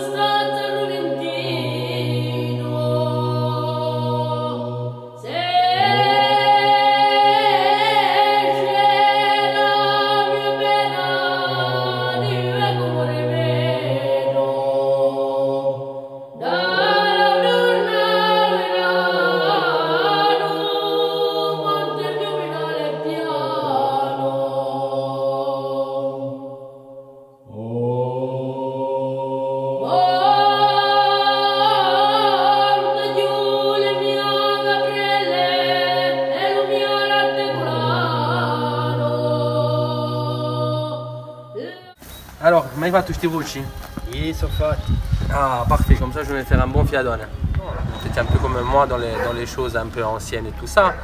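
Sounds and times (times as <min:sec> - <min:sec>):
choir chanting: 0:00.0 - 0:42.0, 0:42.7 - 0:51.0.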